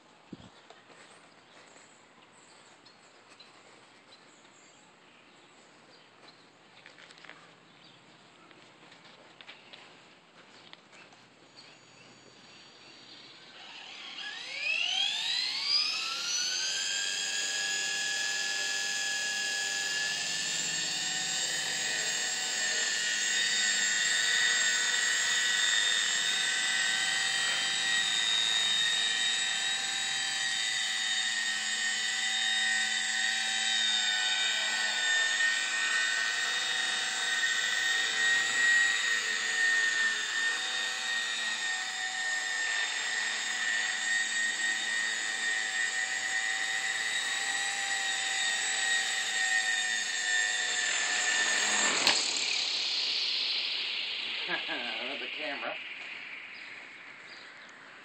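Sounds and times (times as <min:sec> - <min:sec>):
electric helicopter whine: 0:00.0 - 0:58.0.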